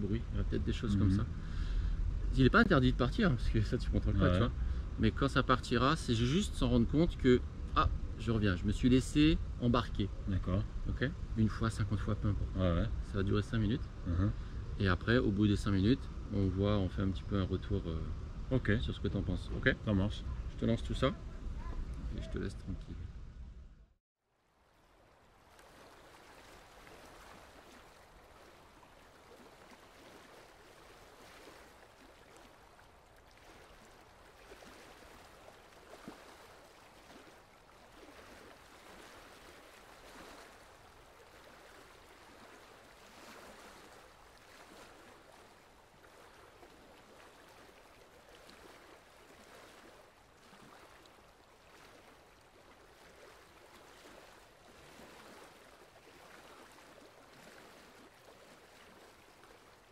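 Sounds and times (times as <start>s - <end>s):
running water: 0.0s - 23.1s, 24.4s - 59.9s.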